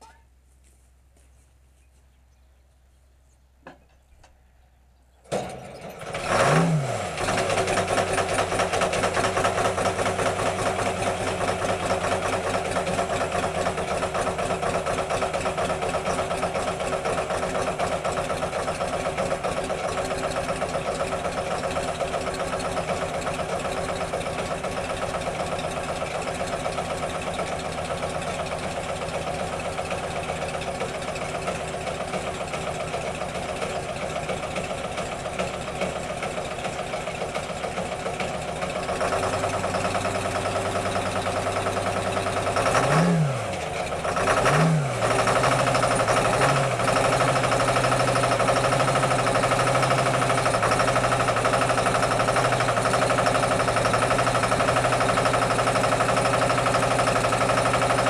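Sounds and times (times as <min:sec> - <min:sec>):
diesel engine starting and running: 0:00.0 - 0:58.0.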